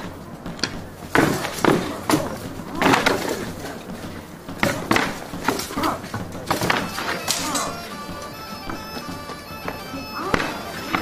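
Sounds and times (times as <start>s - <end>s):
swords clashing on shields: 0.0s - 11.0s.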